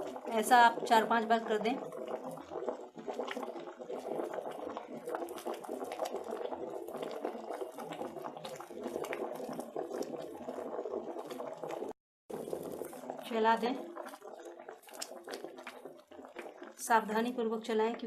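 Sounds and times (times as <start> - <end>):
soup bubbling and popping: 0.0 - 18.0.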